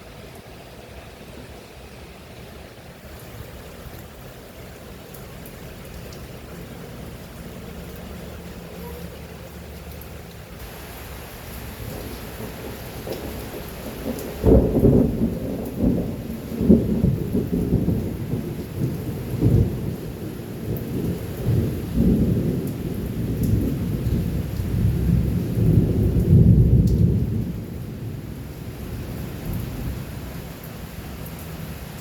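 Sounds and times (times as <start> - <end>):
steady rain: 0.0 - 32.0
thunder rumbling: 3.0 - 30.5.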